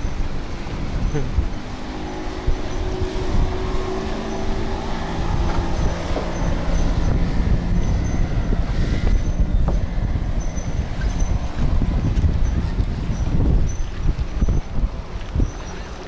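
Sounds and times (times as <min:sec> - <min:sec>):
steady low rumble: 0:00.0 - 0:16.0
steel cables creaking and squealing: 0:01.0 - 0:16.0.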